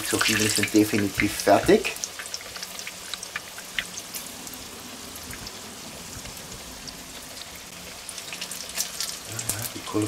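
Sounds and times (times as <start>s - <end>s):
oil popping and crackling: 0.0s - 10.0s
vegetables sizzling in hot oil: 0.0s - 10.0s.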